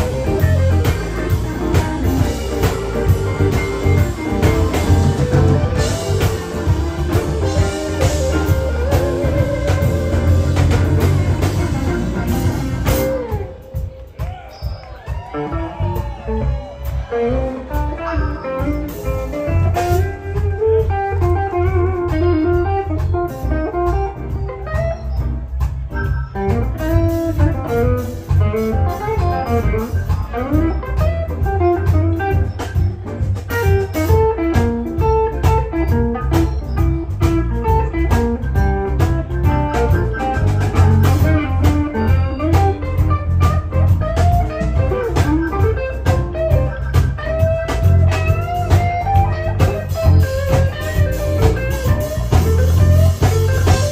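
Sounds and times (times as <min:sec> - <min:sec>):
blues band playing: 0:00.0 - 0:53.9
electric guitar lead with bent notes: 0:00.0 - 0:53.9.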